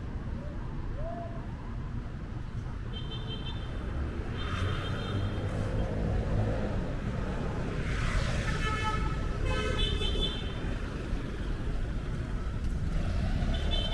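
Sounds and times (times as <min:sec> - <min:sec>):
low rumble of road vehicles: 0:00.0 - 0:13.9.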